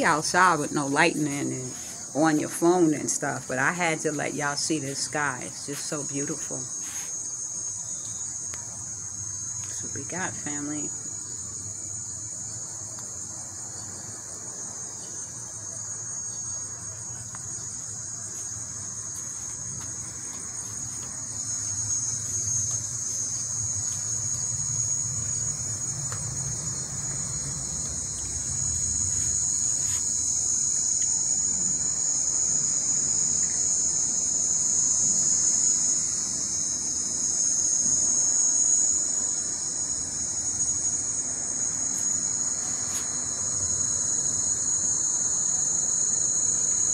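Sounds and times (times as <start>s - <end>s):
evening insects chorus: 0.0s - 46.9s.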